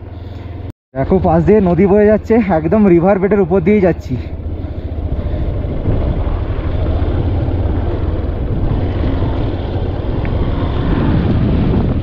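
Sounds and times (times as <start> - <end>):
motorcycle engine rumbling: 0.0 - 12.0
road and wind noise: 0.0 - 12.0.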